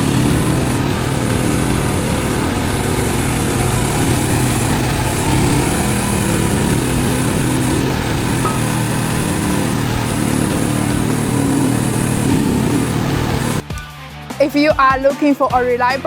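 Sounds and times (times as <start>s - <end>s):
small gasoline engine running: 0.0s - 13.6s.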